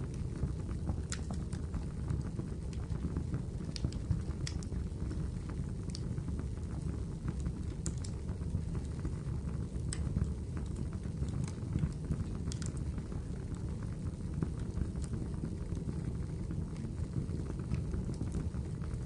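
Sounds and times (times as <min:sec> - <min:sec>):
fire pops and snaps: 0:00.0 - 0:19.0
low rush of burning fire: 0:00.0 - 0:19.0.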